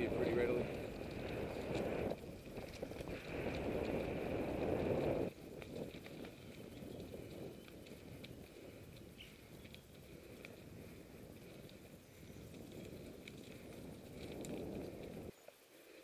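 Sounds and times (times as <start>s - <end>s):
wind on microphone: 0.0s - 15.3s
bike tyres crunching gravel: 0.0s - 15.6s.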